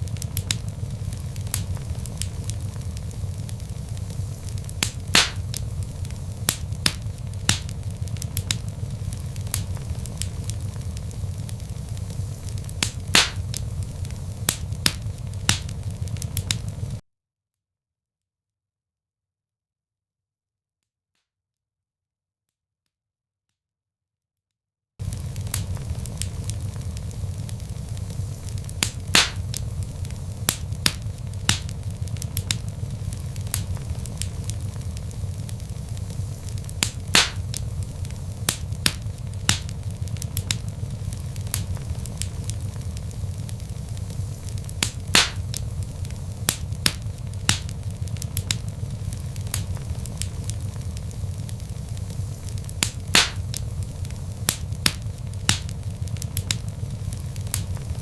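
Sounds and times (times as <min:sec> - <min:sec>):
fire popping: 0:00.0 - 0:17.0, 0:25.0 - 0:58.0
log fire crackling: 0:00.0 - 0:17.0, 0:25.0 - 0:58.0.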